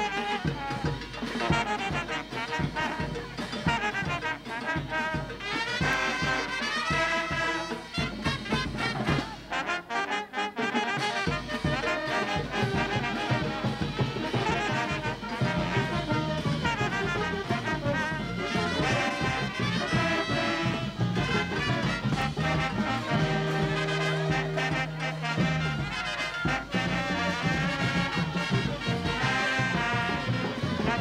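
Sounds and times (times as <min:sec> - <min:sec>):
brass band with tubas playing: 0:00.0 - 0:31.0.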